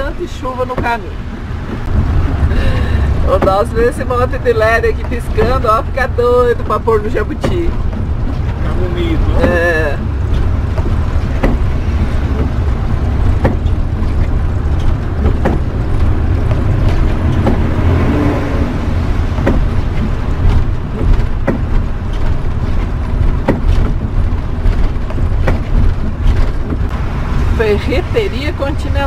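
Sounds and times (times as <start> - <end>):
deep engine rumble: 0.0 - 29.0
windshield wiper clicks: 0.4 - 27.0.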